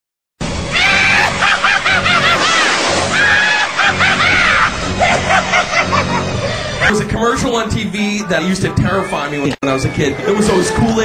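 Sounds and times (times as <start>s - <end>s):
music: 0.4s - 9.5s.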